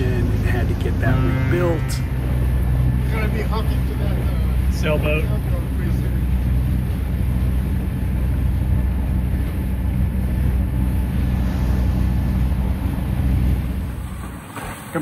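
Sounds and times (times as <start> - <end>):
boat engine humming: 0.0 - 15.0
wind and water hiss: 2.0 - 15.0.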